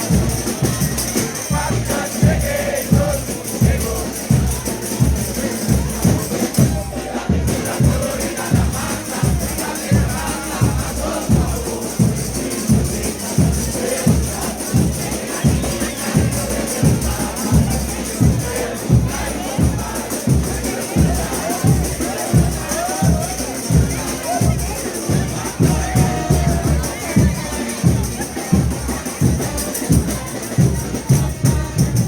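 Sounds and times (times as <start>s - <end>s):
bass drum beat: 0.0s - 32.0s
brass band playing: 0.0s - 32.0s
crowd noise: 0.0s - 32.0s.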